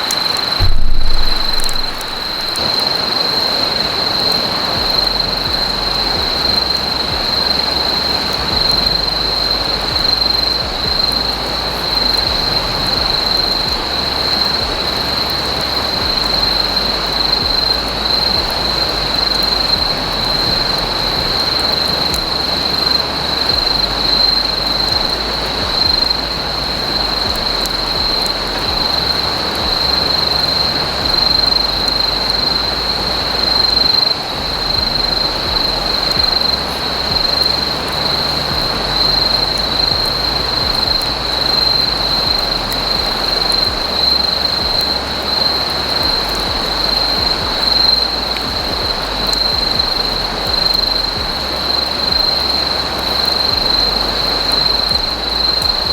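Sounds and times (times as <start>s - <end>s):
constant rushing hiss: 0.0s - 55.9s
faint crackles: 0.0s - 55.9s
insects trilling: 0.0s - 55.9s.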